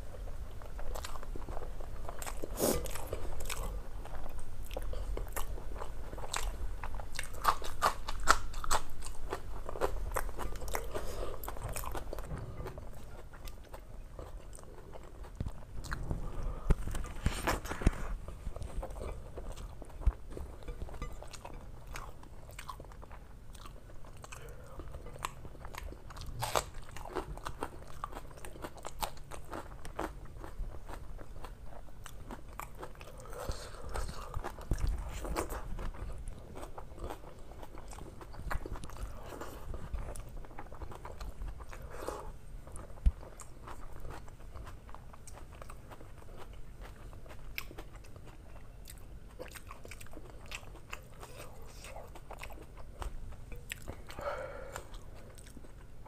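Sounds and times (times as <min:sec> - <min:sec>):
chewing and lip-smacking: 0:00.6 - 0:56.0.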